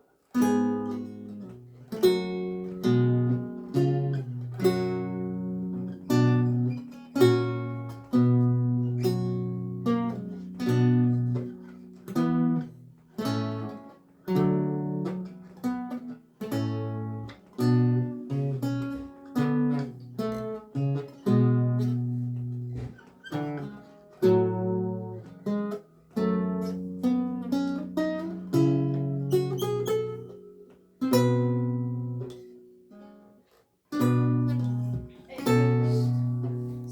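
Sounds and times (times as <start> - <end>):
solo lute music: 0.0 - 36.9.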